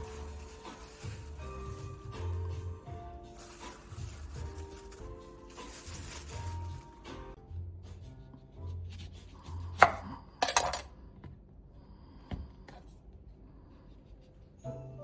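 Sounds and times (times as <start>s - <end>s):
faint background music: 0.0s - 11.1s, 11.8s - 15.0s.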